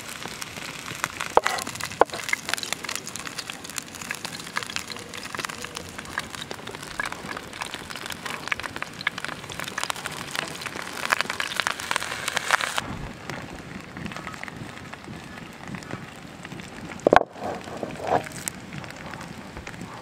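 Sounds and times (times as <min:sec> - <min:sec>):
campfire crackling: 0:00.0 - 0:20.0
pork sizzling in a pan: 0:00.0 - 0:20.0.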